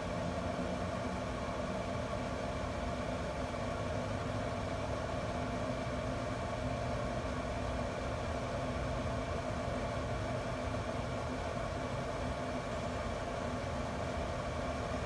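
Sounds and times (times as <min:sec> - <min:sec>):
combustion fan humming: 0:00.0 - 0:15.0.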